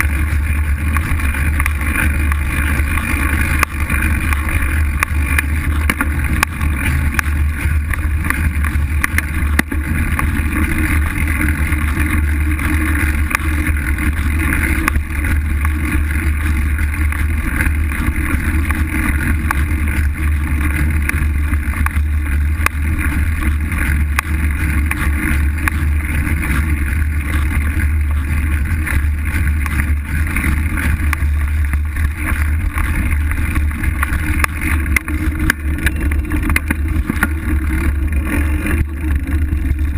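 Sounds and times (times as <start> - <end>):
bike rattles: 0.0 - 39.9
tyre rolling over dirt: 0.0 - 39.9.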